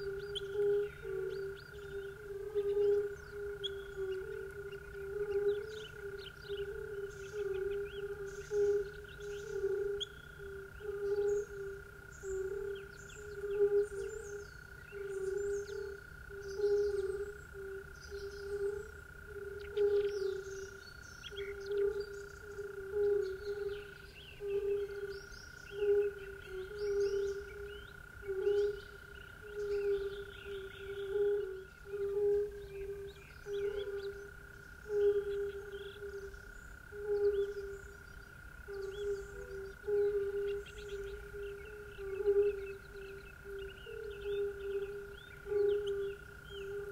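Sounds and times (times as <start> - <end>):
frogs calling: 0.0 - 46.9.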